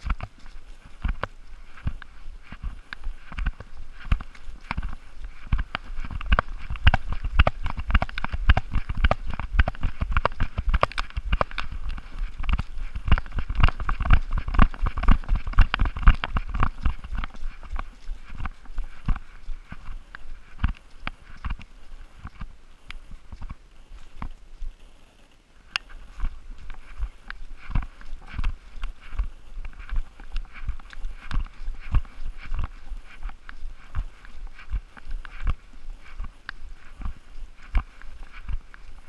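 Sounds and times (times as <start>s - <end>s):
dry leaves rustling: 0.0s - 39.0s.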